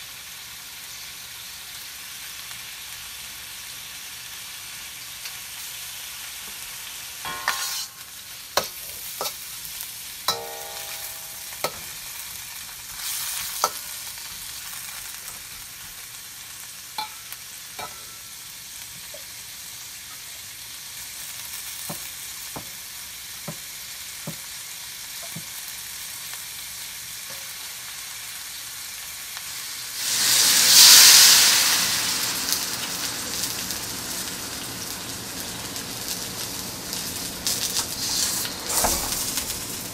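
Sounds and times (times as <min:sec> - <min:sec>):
food sizzling in oiled pan: 0:00.0 - 0:39.9.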